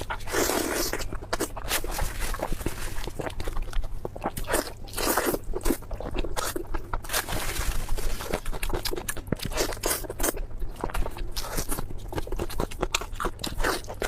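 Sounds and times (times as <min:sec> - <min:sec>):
crunchy bites and chewing: 0:00.0 - 0:14.0.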